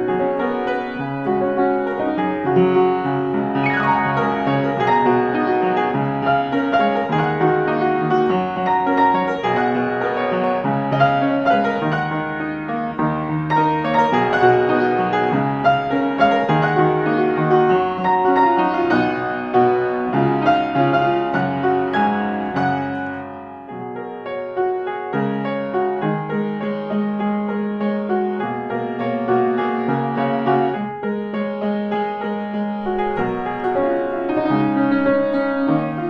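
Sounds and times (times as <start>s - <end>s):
solo piano melody: 0.0s - 36.0s.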